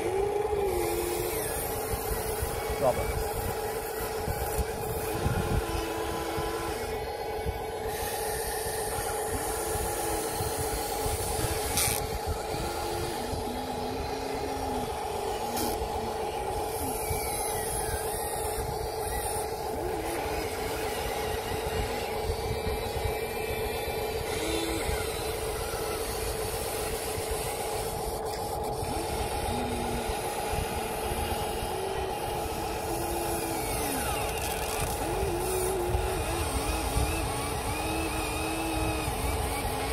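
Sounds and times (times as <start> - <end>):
electric motors whining: 0.0 - 39.9.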